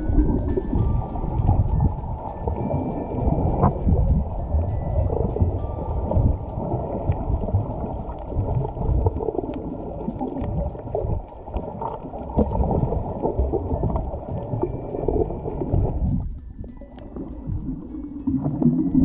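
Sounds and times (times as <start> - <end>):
underwater churning rumble: 0.0 - 16.1
faint scattered clicks: 0.1 - 19.0.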